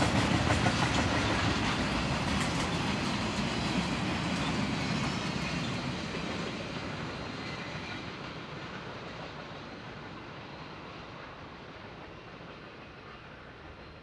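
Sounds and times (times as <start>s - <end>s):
freight train wheels rumbling and clicking: 0.0s - 14.0s.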